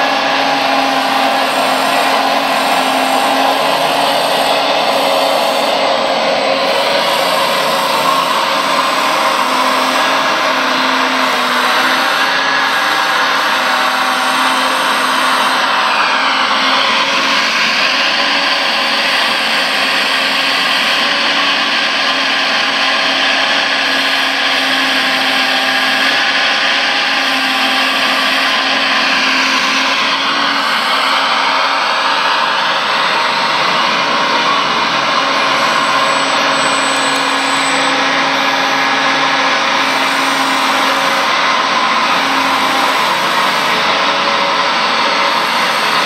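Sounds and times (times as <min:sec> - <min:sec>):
high whine: 0:00.0 - 0:46.0
hydraulic pump whirring: 0:00.0 - 0:46.0.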